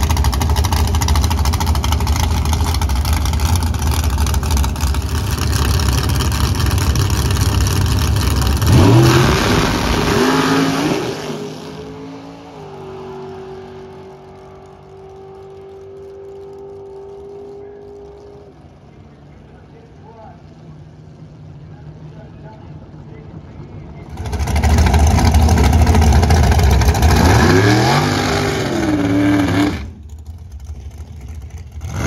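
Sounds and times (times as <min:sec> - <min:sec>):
dragster engine roaring: 0:00.0 - 0:32.0.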